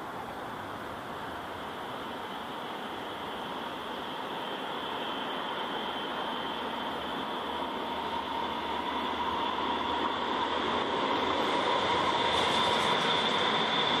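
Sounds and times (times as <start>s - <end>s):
electric train rumble: 0.0s - 14.0s
high-pitched whine: 1.2s - 14.0s.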